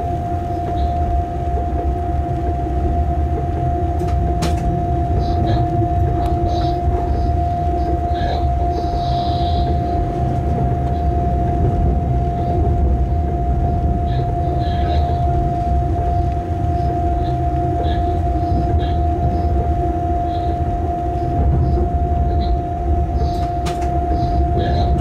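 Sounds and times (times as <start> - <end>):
constant whine: 0.0 - 25.0
wheels rumbling on track: 0.0 - 25.0.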